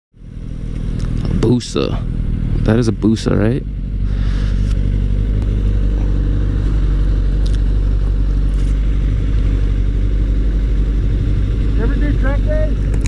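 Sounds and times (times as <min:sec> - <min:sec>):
motorcycle engines idling: 0:00.2 - 0:13.0.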